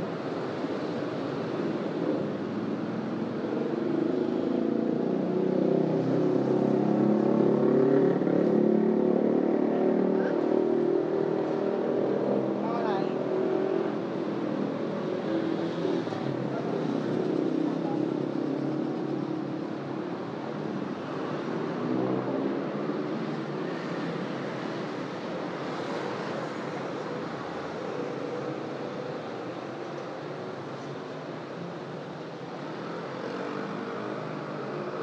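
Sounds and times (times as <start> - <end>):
city traffic passing: 0.0 - 35.0.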